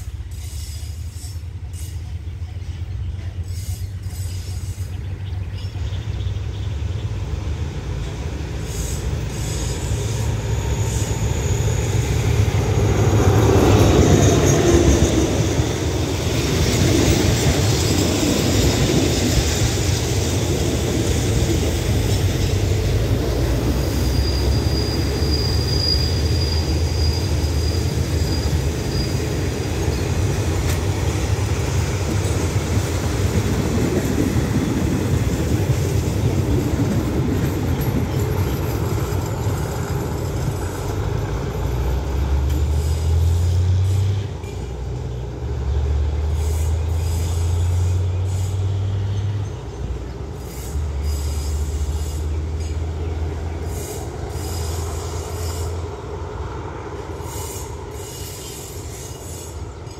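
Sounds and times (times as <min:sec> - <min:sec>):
high wheel squeal: 0:00.0 - 0:05.3, 0:08.6 - 0:32.5, 0:36.6 - 0:44.7, 0:46.2 - 0:56.1, 0:57.0 - 0:59.9
train wheels rumbling on track: 0:00.0 - 0:59.9.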